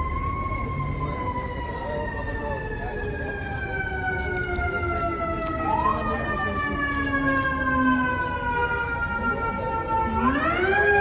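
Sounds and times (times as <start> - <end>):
emergency siren wailing: 0.0 - 11.0
low traffic rumble: 0.0 - 11.0.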